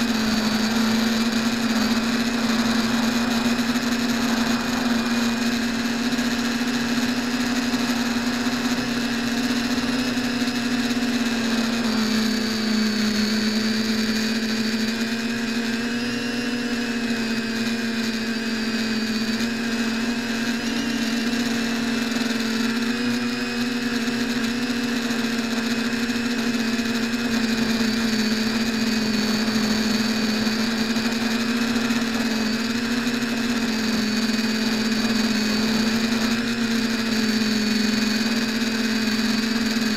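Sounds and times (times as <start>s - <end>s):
quadcopter motors whining: 0.0s - 39.9s.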